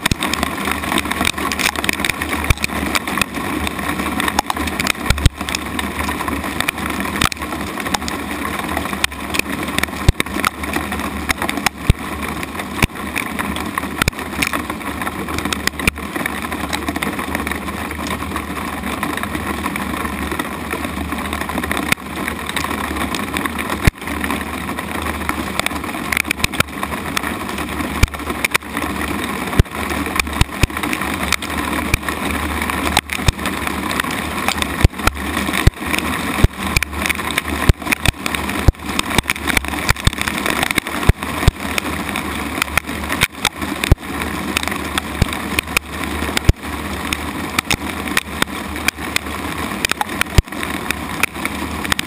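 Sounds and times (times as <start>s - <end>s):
hailstones clacking: 0.0s - 52.0s
rain pelting a wooden deck: 0.0s - 52.0s.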